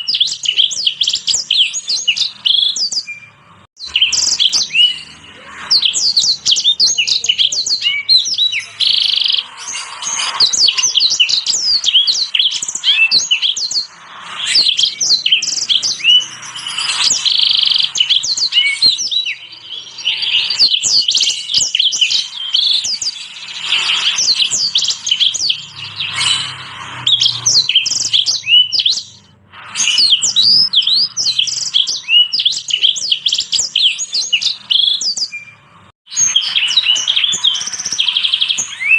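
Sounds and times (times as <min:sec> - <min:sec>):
finches singing: 0:00.0 - 0:38.9.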